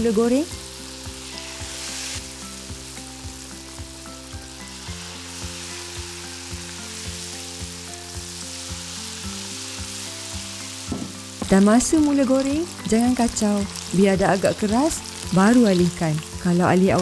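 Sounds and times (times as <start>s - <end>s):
deep-frying sizzle: 0.0s - 17.0s.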